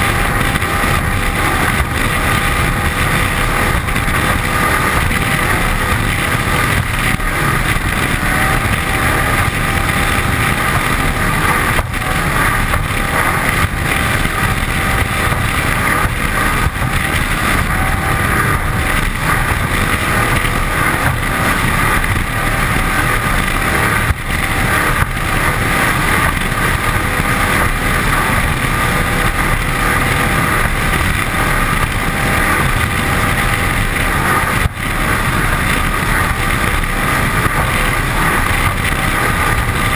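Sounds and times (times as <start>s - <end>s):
powerboat engine droning: 0.0s - 39.9s
spray rushing off hull: 0.0s - 39.9s
wind on microphone: 0.0s - 39.9s.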